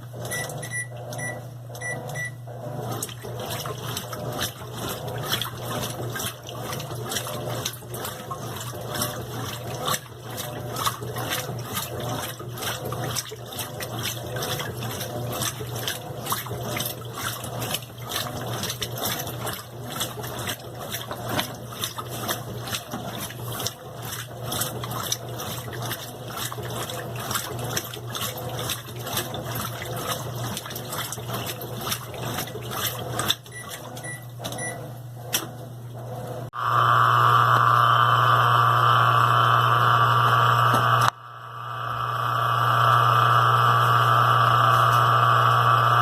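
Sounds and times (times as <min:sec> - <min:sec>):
water filling washing machine: 0:00.0 - 0:46.0.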